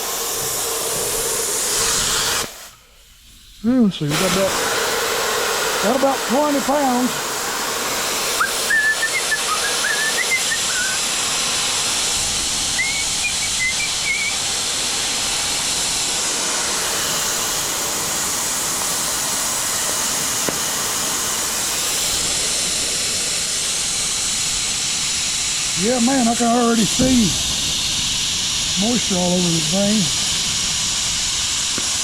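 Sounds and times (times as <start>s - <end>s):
compressed air hissing: 0.0s - 32.0s.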